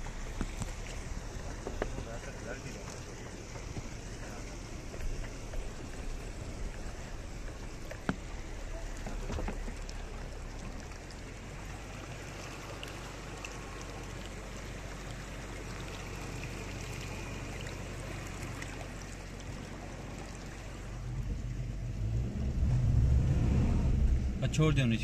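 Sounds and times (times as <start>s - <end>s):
vehicle engine and tyre noise: 0.0s - 25.0s.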